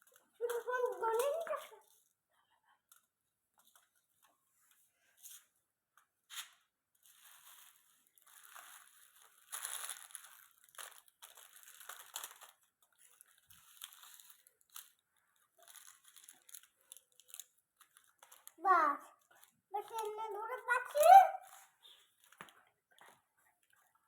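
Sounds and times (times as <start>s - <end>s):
crinkling of wrapped candies: 0.0s - 4.3s, 6.4s - 23.9s.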